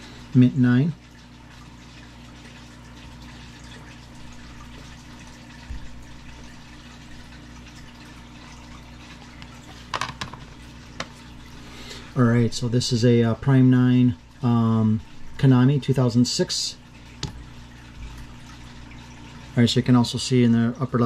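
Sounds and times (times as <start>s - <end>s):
room tone hum and hiss: 0.0s - 21.0s.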